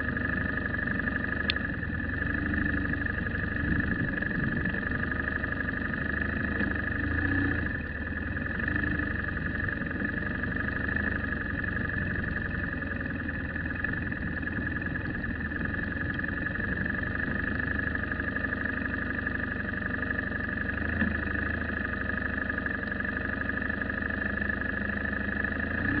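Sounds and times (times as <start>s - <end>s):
high hum: 0.0s - 24.2s
vehicle engine and road noise: 0.0s - 26.0s.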